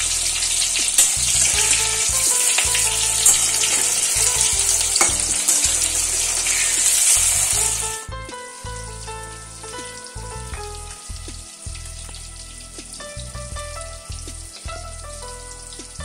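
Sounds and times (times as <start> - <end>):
patties sizzling in oil: 0.0 - 16.0.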